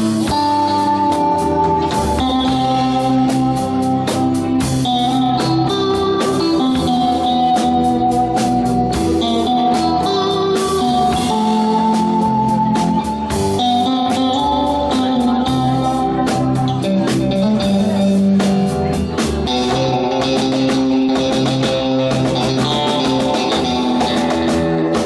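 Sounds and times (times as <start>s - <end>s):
electric guitar notes: 0.0s - 25.0s
rock band playing: 0.0s - 25.0s.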